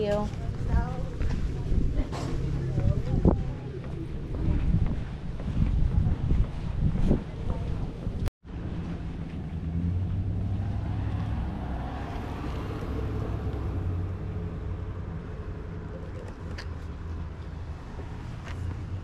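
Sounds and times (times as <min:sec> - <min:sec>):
wind rumble on microphone: 0:00.0 - 0:15.3.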